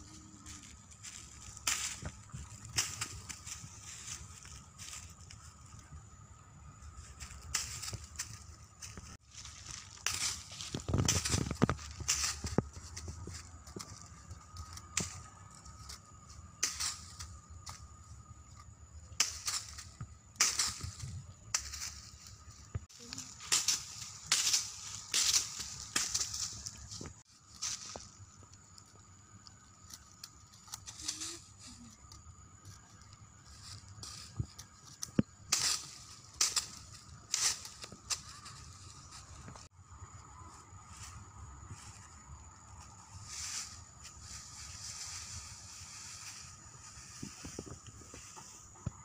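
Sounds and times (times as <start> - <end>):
dry leaves crunching underfoot: 0.0 - 39.7, 40.4 - 49.0.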